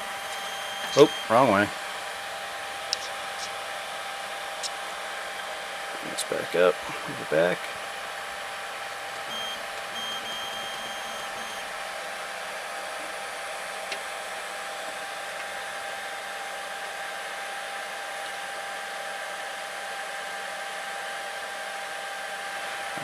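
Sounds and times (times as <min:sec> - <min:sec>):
cooling fans whirring: 0:00.0 - 0:23.0
thin motor whine: 0:00.0 - 0:23.0.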